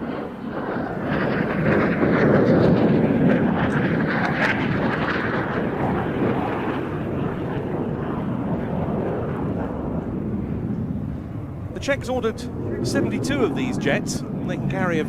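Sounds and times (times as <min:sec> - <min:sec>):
jet flying past roaring: 0:00.0 - 0:15.0.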